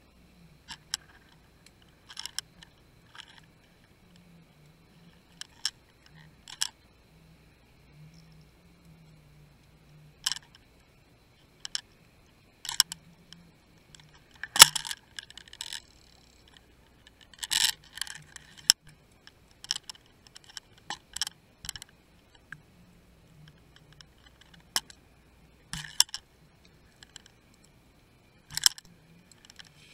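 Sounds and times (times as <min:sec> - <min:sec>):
faint steady whine: 0:00.0 - 0:29.9.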